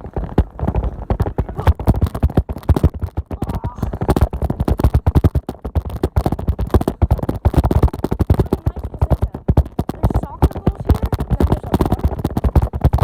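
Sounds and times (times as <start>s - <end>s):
bicycle rattling over rough ground: 0.0s - 13.0s.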